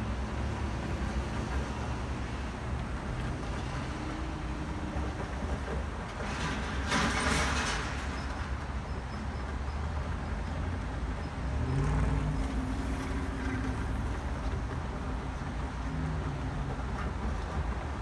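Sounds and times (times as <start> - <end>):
low rumble of vehicles: 0.0 - 18.0.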